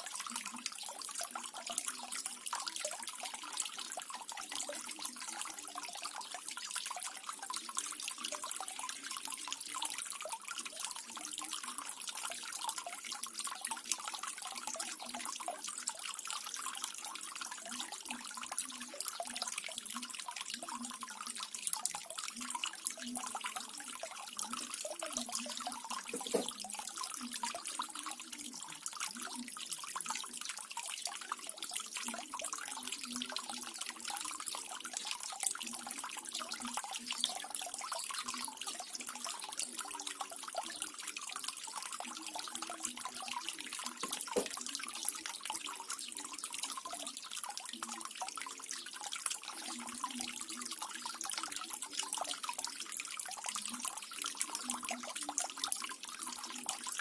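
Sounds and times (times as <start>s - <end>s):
fountain water trickling and splashing: 0.0s - 57.0s
small drips pattering: 0.0s - 57.0s.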